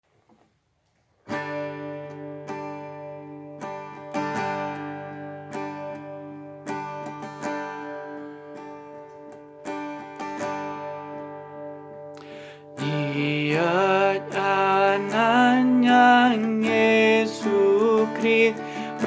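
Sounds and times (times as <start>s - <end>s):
acoustic guitar strumming chords: 1.3s - 19.0s.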